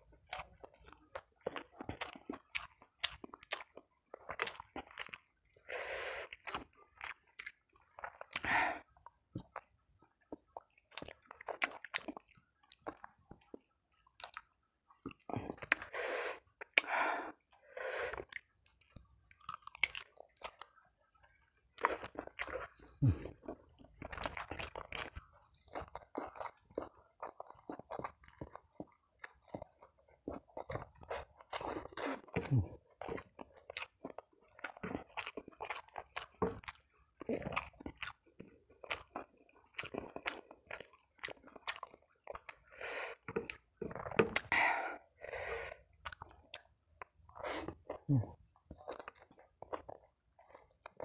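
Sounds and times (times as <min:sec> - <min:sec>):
chewing food: 0:00.0 - 0:51.0.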